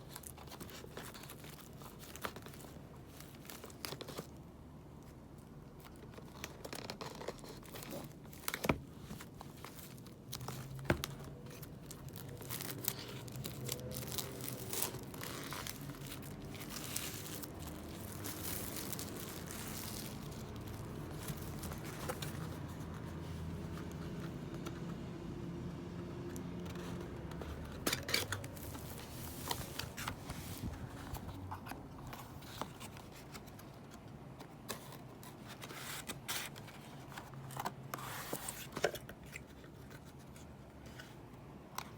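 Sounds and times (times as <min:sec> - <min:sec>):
plastic and paper crinkling: 0:00.0 - 0:25.0, 0:26.2 - 0:41.9.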